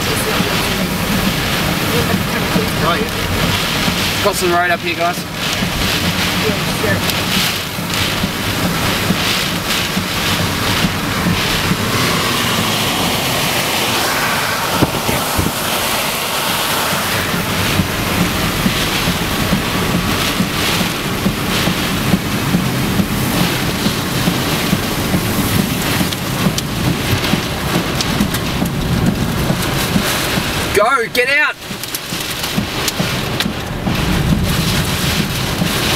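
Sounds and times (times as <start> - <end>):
heavy rain beating on car: 0.0 - 35.9
wind noise on microphone: 5.2 - 30.8, 31.6 - 35.9.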